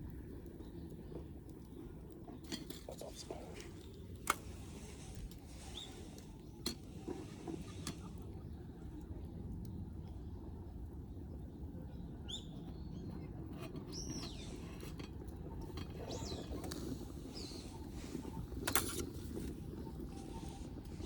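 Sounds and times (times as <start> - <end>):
low background rumble: 0.0 - 21.0
birds chirping: 0.1 - 9.2, 11.3 - 21.0.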